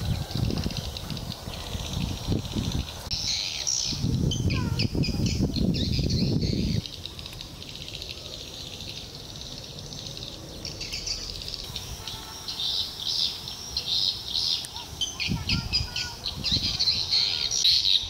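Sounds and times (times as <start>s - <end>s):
birds chirping and calling: 0.0s - 18.0s
soft insect hum: 0.0s - 18.0s.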